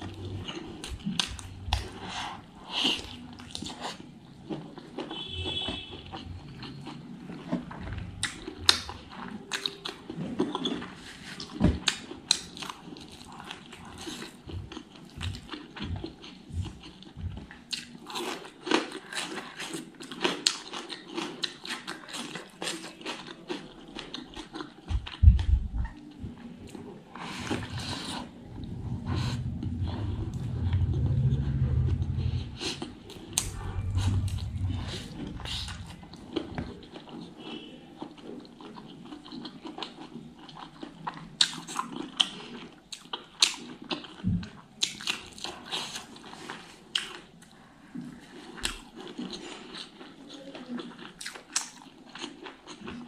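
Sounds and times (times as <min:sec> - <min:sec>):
wet chewing: 0:00.0 - 0:53.0.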